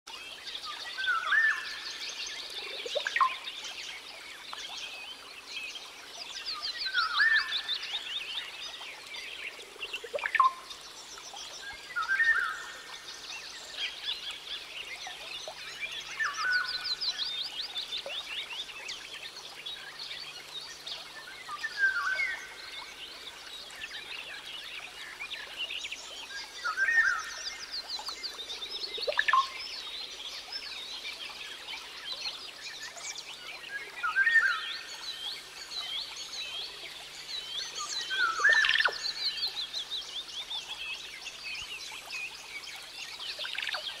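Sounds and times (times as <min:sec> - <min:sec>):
songbird chirping trills: 0:00.2 - 0:44.0.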